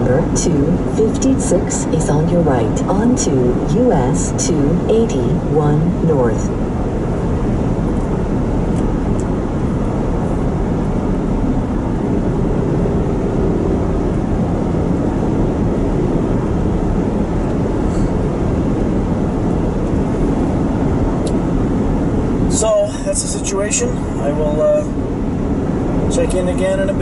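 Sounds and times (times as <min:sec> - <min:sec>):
vehicle road and engine noise: 0:00.0 - 0:27.0.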